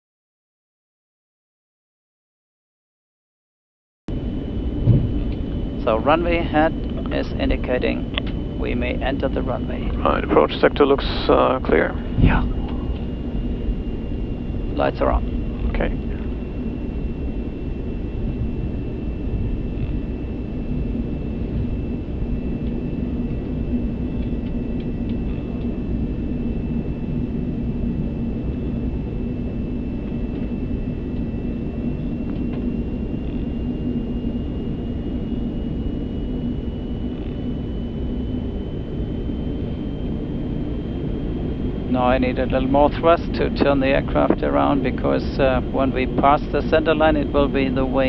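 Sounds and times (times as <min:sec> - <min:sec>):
aircraft taxiing rumble: 0:04.1 - 0:48.0
thin high whine: 0:04.1 - 0:48.0.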